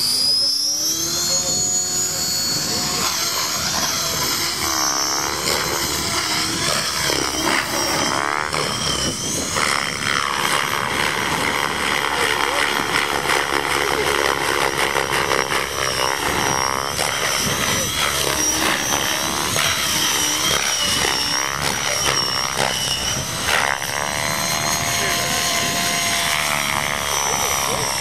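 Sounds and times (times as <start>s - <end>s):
rc helicopter motor whine: 0.0s - 28.0s
rotor blades whirring: 0.0s - 28.0s.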